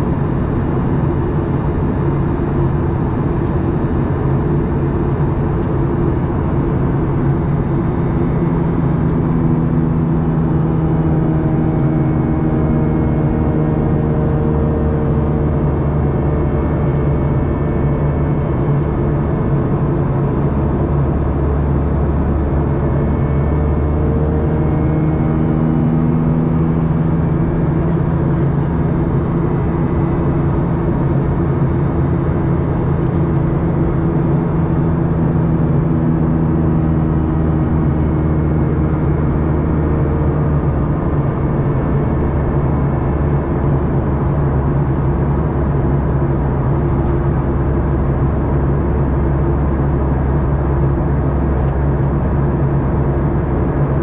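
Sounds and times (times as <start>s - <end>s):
airflow rumble: 0.0s - 54.0s
jet engines running steadily: 0.0s - 54.0s.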